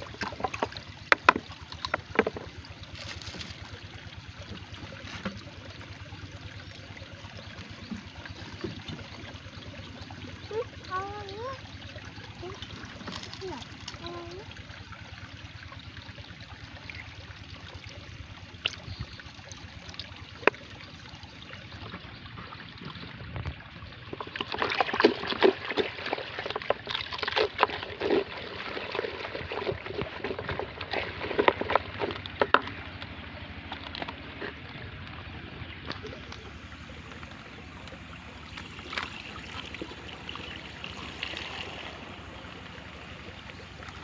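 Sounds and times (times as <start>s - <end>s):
water trickling and sloshing: 0.0s - 44.0s.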